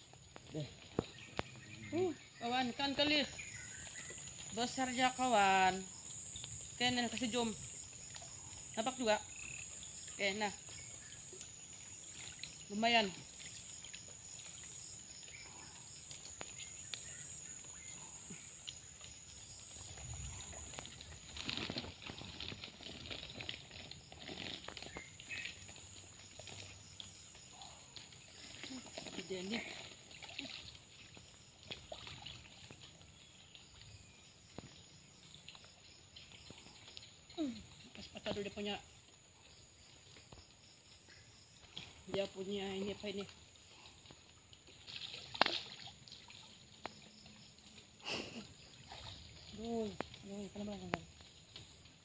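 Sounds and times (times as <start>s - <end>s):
insects droning: 0.0s - 52.0s
people wading in water: 0.0s - 52.0s
water splashing: 0.0s - 52.0s.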